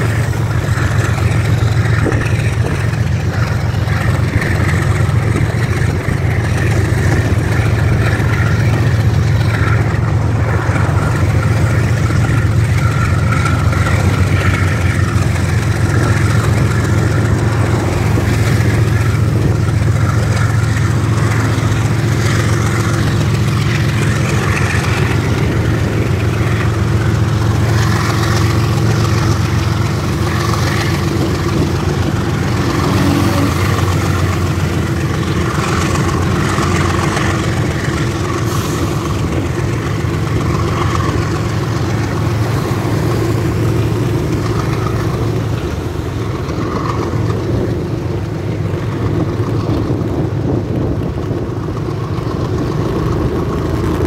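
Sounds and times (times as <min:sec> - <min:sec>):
diesel locomotive: 0:00.0 - 0:54.0
motorcycle engine drone: 0:00.0 - 0:54.0
wind rushing over microphone: 0:00.0 - 0:54.0.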